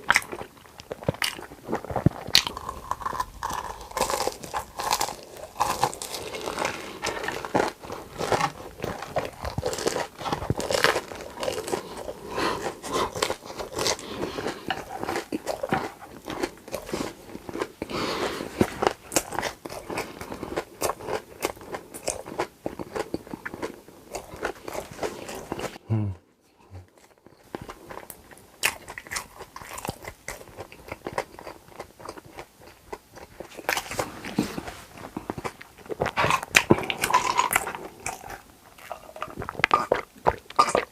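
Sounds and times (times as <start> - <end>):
person crunching and chewing: 0.0 - 25.8, 26.8 - 40.9.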